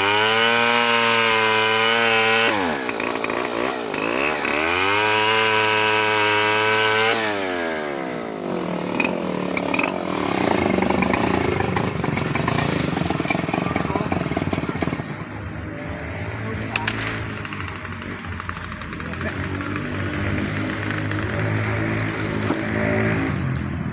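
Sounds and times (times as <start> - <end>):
chainsaw cutting wood: 0.0 - 15.2, 16.7 - 23.1.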